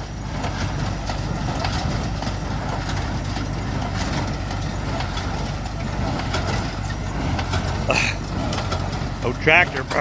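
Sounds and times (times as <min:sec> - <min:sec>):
baler mechanism clacking and knocking: 0:00.0 - 0:10.0
tractor engine running under load: 0:00.0 - 0:10.0.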